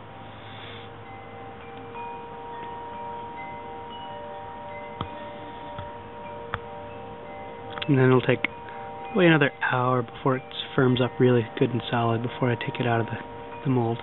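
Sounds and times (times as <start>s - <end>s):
chimes ringing: 0.0s - 14.0s.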